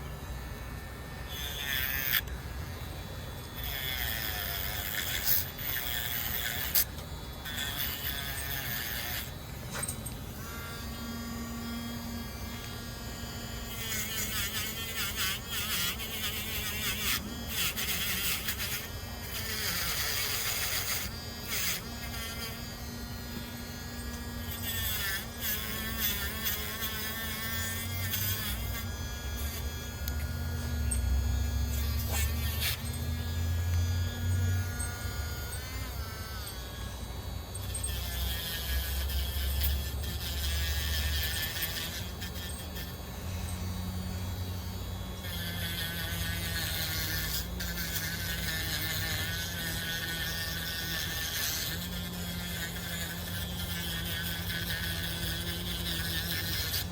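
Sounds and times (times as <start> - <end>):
rotary tool wire brush whine: 0.0 - 56.9.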